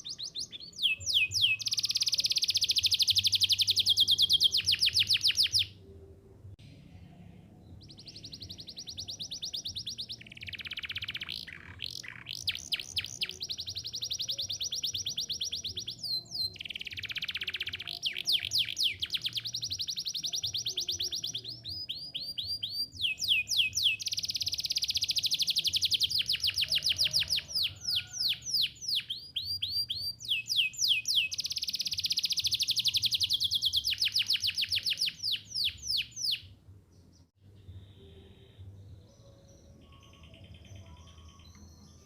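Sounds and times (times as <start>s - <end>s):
canary singing trills: 0.0s - 5.8s, 7.7s - 42.0s.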